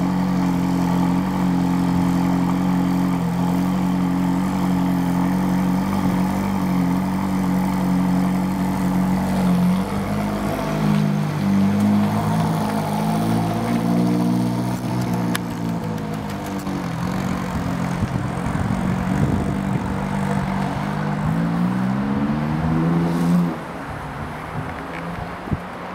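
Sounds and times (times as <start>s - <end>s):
sports car engine revving: 0.0s - 23.7s.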